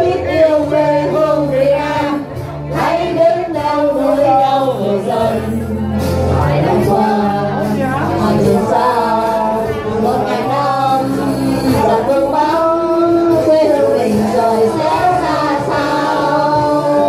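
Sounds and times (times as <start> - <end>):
amplified music with bass line: 0.0 - 17.0
people singing into microphones: 0.0 - 17.0.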